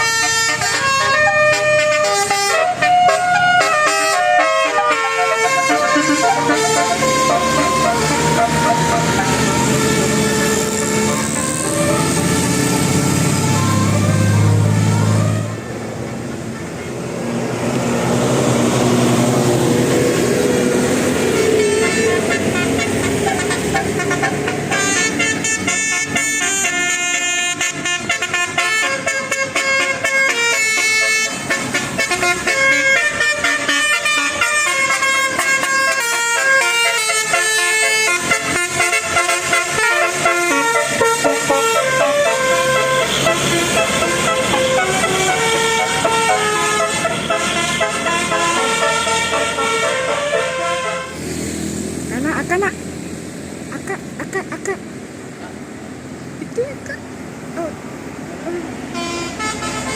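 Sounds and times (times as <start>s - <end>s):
musical bus horn: 0.0s - 15.6s, 18.2s - 51.5s, 58.8s - 59.9s
vehicle noise: 0.0s - 59.9s.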